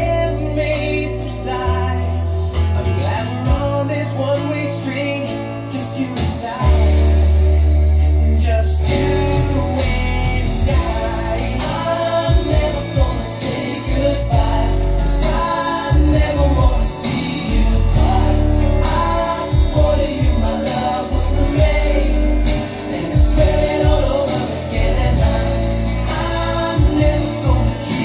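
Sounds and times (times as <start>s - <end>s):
deep bass notes: 0.0s - 28.0s
guitar: 0.0s - 28.0s
person singing: 0.0s - 28.0s.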